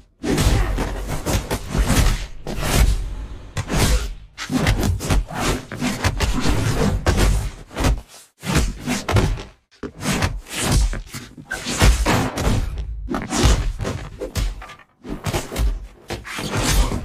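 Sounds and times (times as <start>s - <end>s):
punches and body blows: 0.0s - 17.0s.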